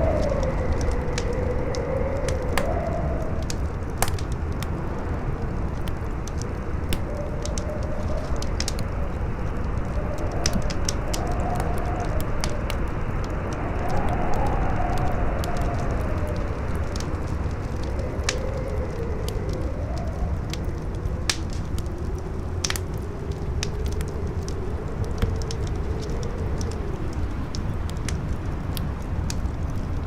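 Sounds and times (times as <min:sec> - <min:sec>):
campfire crackling and popping: 0:00.0 - 0:30.0
wind howling: 0:00.0 - 0:30.0.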